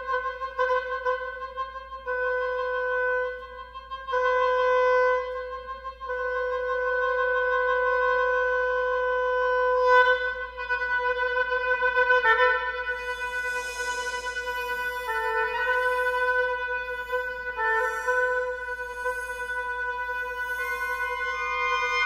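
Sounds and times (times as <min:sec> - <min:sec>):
oboe holding long notes: 0:00.0 - 0:22.0.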